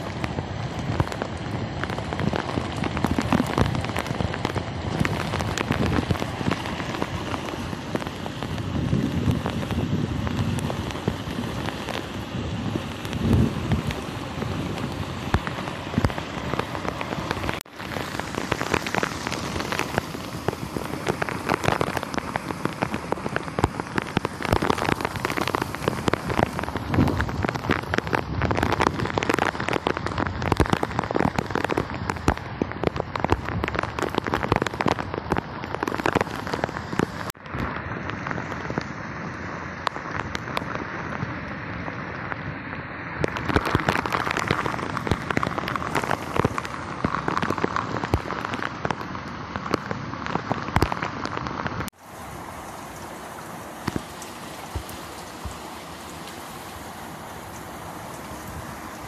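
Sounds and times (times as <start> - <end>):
drain rushing with water: 0.0 - 59.0
heavy rain pouring: 0.0 - 59.0.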